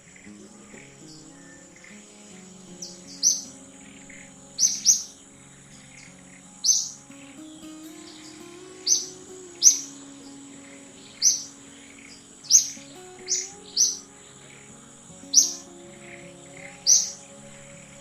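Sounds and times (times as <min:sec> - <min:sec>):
background music of held notes: 0:00.0 - 0:18.0.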